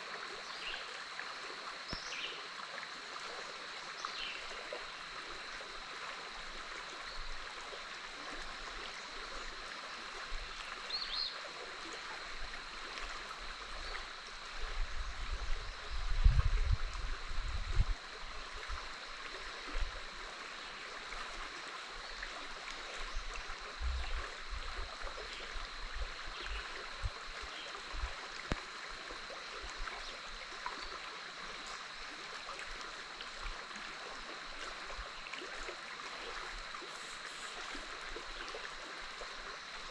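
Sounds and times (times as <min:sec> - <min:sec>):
river flowing: 0:00.0 - 0:16.0, 0:17.0 - 0:39.9.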